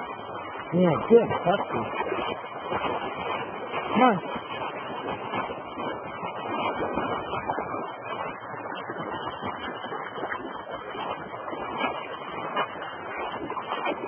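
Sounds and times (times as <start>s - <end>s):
wading feet splashing water: 0.0s - 14.0s.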